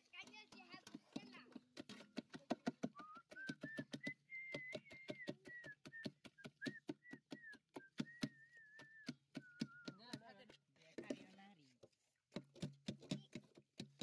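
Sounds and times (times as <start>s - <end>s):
masher pounding fruit in a pot: 0.0s - 11.4s, 12.3s - 14.0s.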